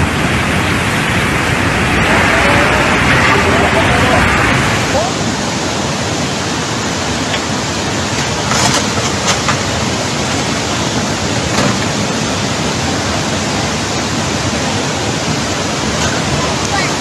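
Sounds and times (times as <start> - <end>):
rush of storm water: 0.0 - 17.0.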